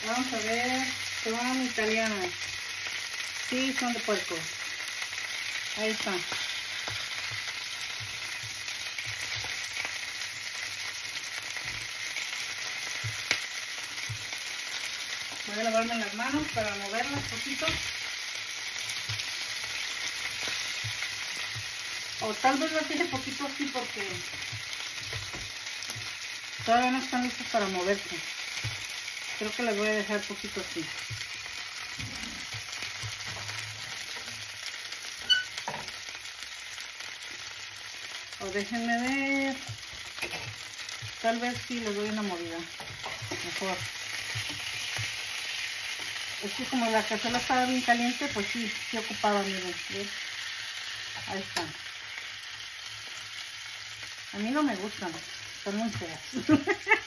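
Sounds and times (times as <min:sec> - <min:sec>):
sausages sizzling in a skillet: 0:00.0 - 0:57.0.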